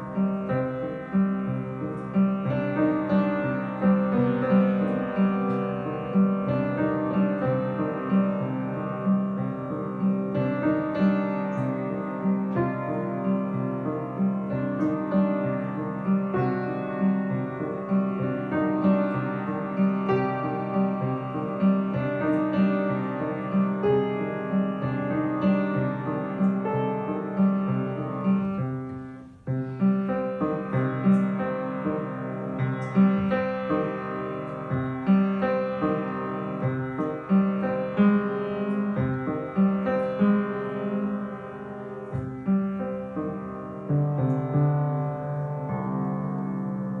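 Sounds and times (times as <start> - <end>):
upright piano melody: 0.0 - 47.0.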